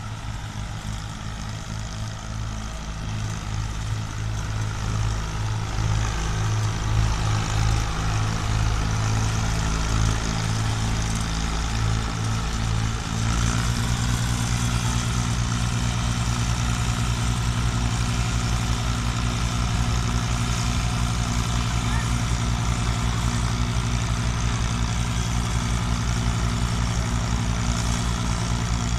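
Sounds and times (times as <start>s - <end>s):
tractor engine under load: 0.0s - 28.9s.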